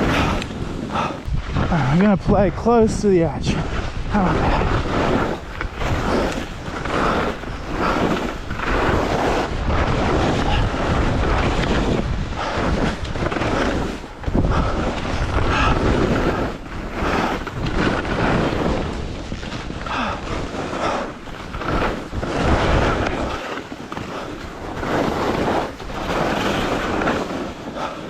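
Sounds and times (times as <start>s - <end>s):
wind rushing over microphone: 0.0s - 28.0s
skis hissing through snow: 2.7s - 28.0s.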